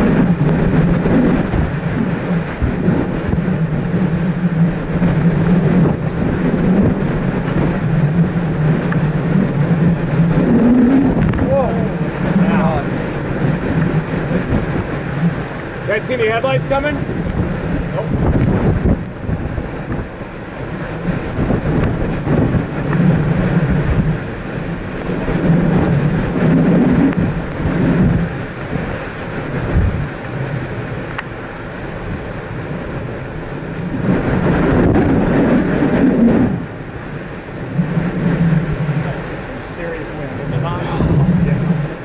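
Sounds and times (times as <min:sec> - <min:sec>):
hurricane wind roaring in gusts: 0:00.0 - 0:42.0
wind buffeting microphone: 0:00.0 - 0:42.0.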